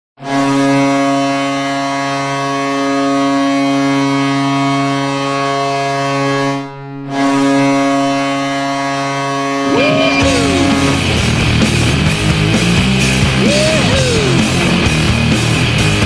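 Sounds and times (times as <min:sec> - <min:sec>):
deep goal horn: 0:00.2 - 0:14.4.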